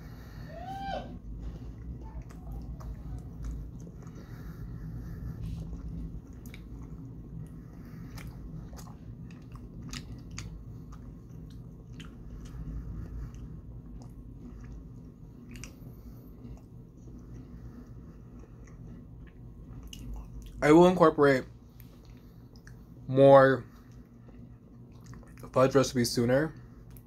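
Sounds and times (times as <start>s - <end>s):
low hum: 0.0s - 27.0s
chewing with wet mouth clicks: 1.6s - 20.6s, 21.7s - 23.0s, 23.7s - 25.6s.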